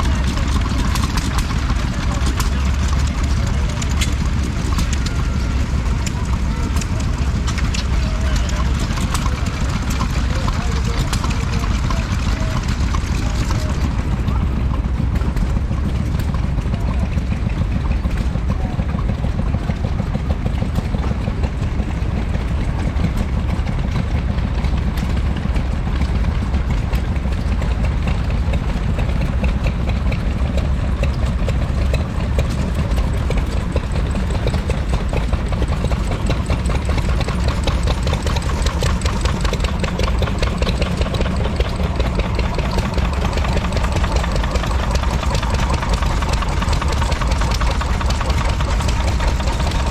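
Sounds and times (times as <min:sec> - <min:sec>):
stationary engine running: 0:00.0 - 0:49.9.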